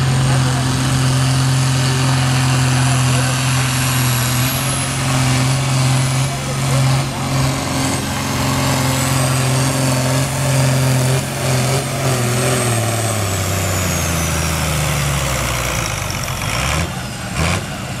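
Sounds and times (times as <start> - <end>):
tractor diesel engine straining: 0.0 - 18.0.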